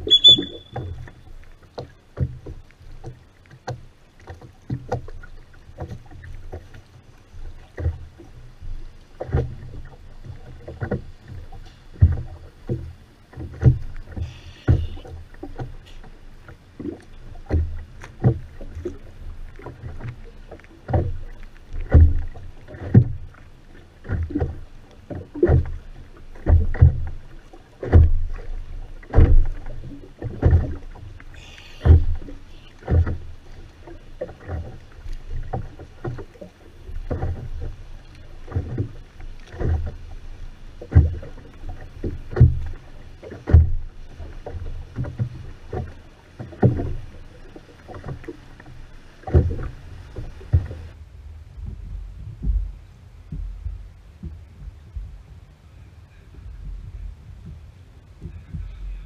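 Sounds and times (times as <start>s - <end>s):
oars knocking and splashing: 0.0s - 55.6s, 56.2s - 59.0s.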